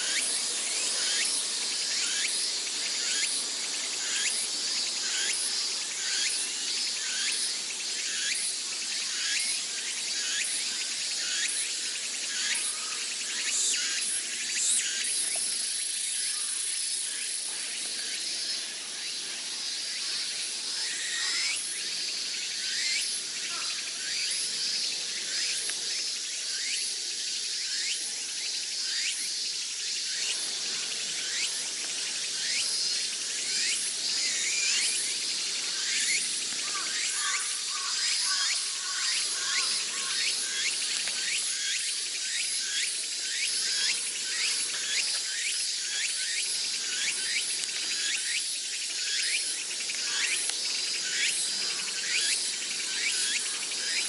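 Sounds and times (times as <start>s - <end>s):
cicadas chorus: 0.0s - 54.0s.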